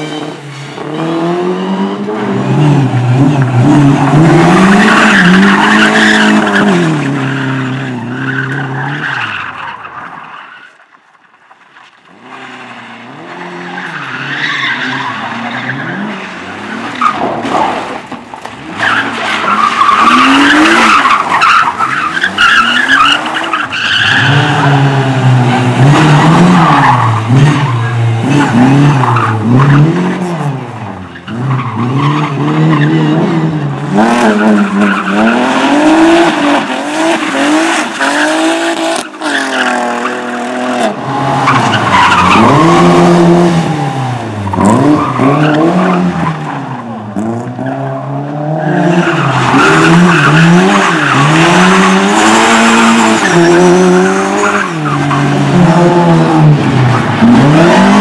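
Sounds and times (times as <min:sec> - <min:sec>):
car engines revving: 0:00.0 - 0:09.9, 0:11.4 - 0:58.0
tyres skidding and squealing: 0:00.0 - 0:58.0.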